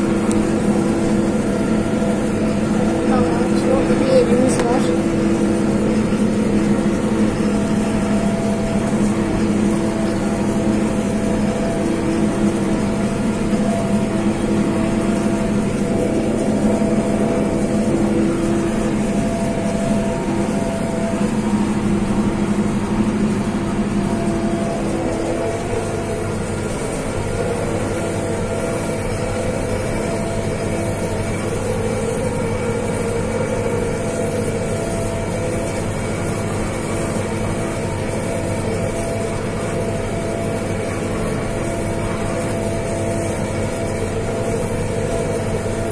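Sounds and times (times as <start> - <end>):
tractor engine running under load: 0.0 - 45.9.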